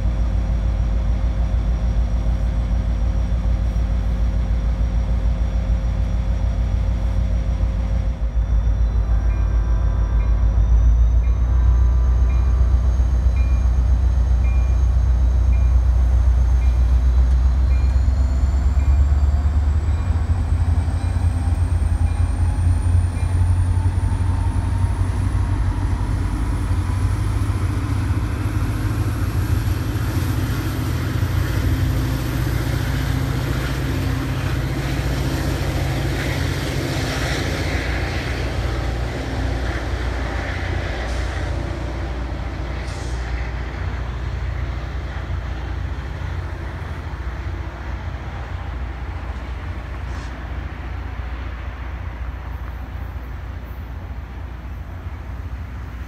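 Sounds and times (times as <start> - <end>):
diesel locomotive rumble: 0.0 - 56.0.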